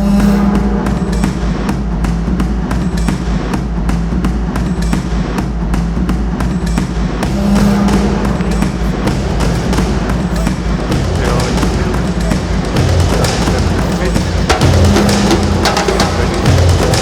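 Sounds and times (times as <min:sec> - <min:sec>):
drums beating: 0:00.0 - 0:17.0.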